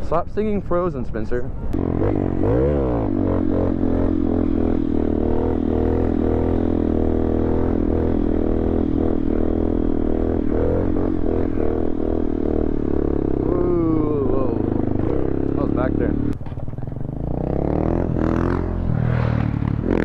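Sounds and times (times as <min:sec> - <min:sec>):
motorcycle engine revving: 0:01.6 - 0:20.0.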